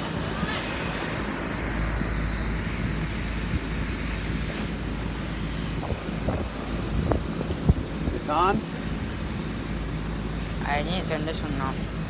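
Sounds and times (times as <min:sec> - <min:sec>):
low drone: 0:00.0 - 0:10.7
air conditioner fan hum: 0:00.0 - 0:12.0.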